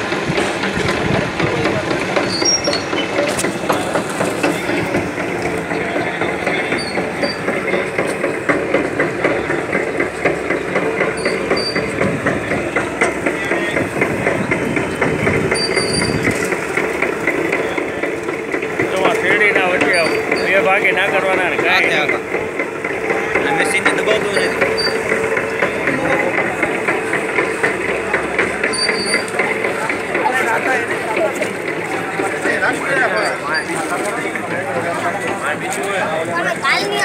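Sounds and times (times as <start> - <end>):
sugarcane crushing machine clatter: 0.0 - 37.0.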